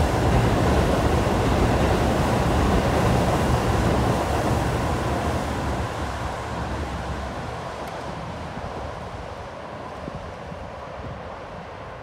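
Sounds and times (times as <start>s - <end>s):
distant train rumble on bridge: 0.0s - 12.0s
wind buffeting microphone: 0.0s - 12.0s.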